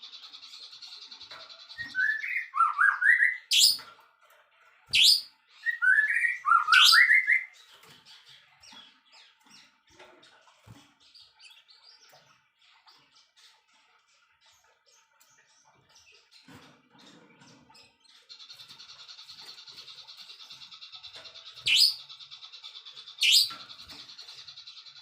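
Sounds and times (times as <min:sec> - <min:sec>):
songbird singing: 0:00.0 - 0:03.9, 0:04.6 - 0:25.0
bird chips and twitters: 0:00.0 - 0:25.0.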